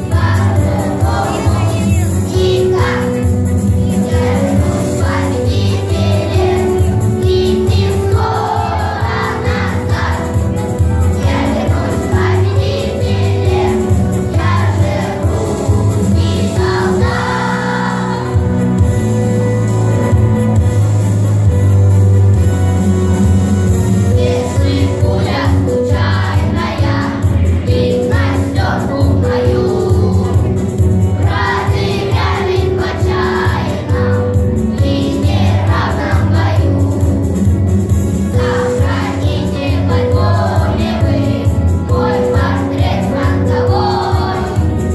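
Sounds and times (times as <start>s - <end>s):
children's choir singing: 0.0s - 18.9s, 24.1s - 37.3s, 38.2s - 44.9s
instrumental accompaniment: 0.0s - 44.9s.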